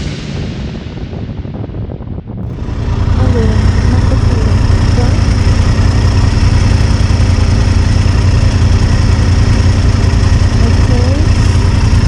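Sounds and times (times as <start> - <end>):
motorcycle engine rumbling: 1.7 - 12.0.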